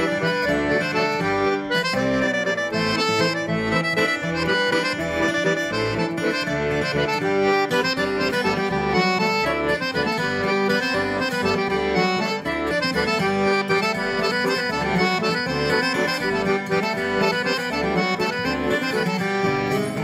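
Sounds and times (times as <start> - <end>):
instrumental music with bass beat: 0.0 - 20.0.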